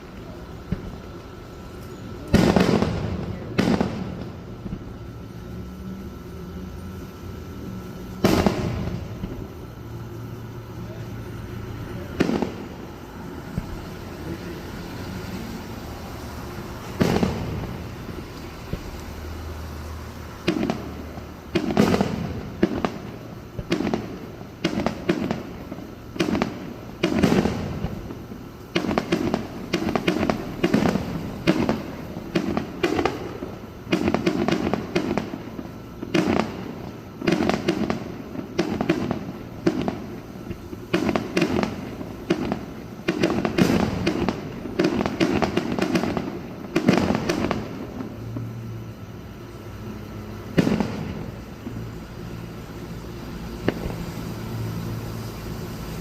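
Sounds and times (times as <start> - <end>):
fireworks exploding: 0.0 - 56.0.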